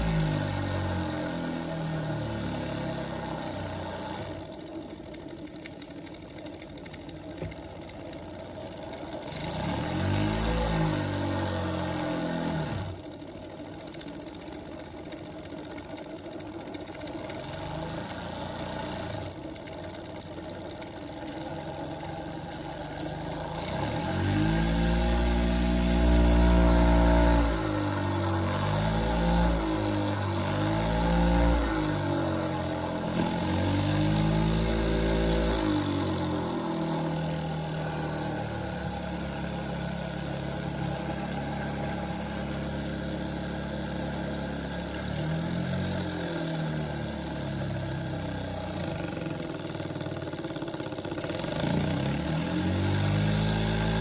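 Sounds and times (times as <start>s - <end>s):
model steam engine running: 2.5s - 10.6s, 12.8s - 45.5s, 47.0s - 52.2s.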